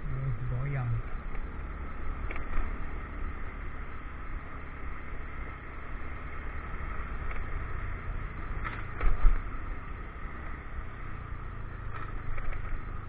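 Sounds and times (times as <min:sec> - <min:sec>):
motorcycle engine rumble: 0:00.0 - 0:13.0
wind and road noise: 0:00.0 - 0:13.0.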